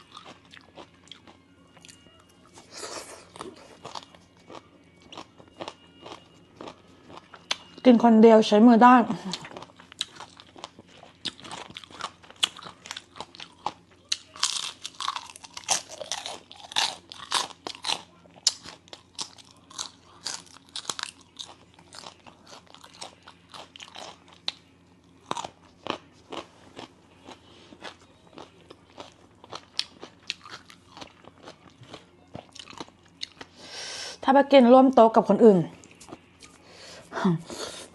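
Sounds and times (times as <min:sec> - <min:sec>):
crunching and chewing food: 0:00.0 - 0:08.0, 0:09.1 - 0:33.7, 0:35.8 - 0:36.7.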